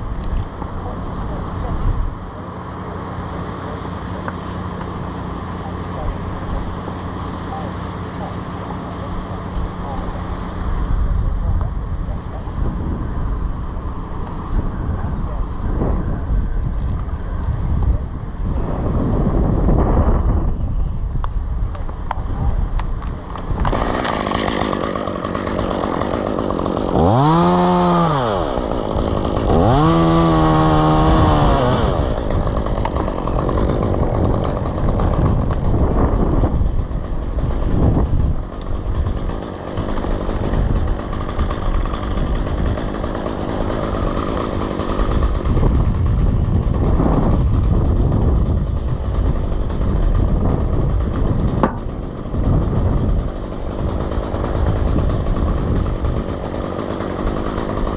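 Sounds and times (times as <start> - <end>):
chainsaw revving: 0.0 - 12.5, 22.8 - 57.9.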